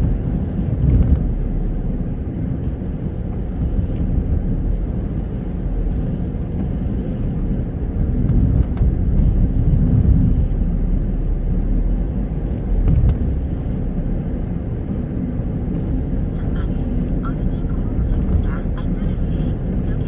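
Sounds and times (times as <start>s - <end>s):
car interior road and engine rumble: 0.0s - 20.0s.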